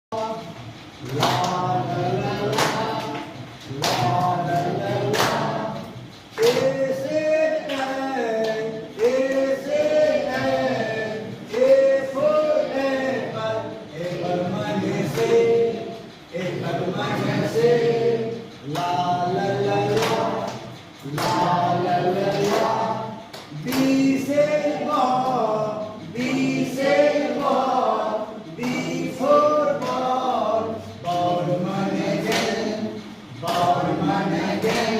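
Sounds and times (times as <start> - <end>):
children's song: 0.1 - 34.9
voices singing a chant: 0.1 - 34.9.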